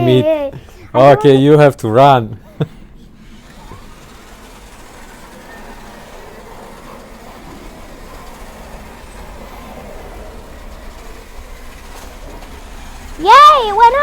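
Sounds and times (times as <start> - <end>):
remote-control cars whirring: 2.6 - 14.0.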